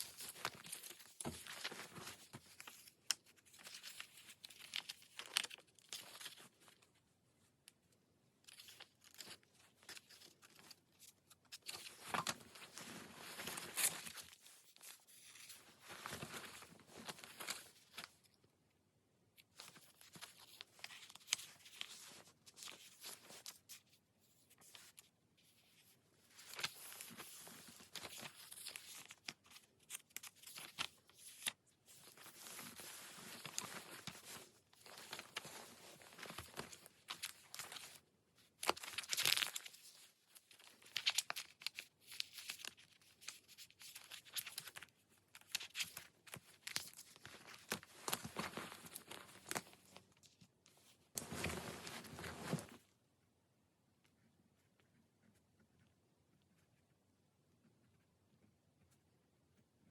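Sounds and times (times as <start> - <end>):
paper rustling and crinkling: 0.0 - 7.0, 8.4 - 18.4, 19.4 - 52.9.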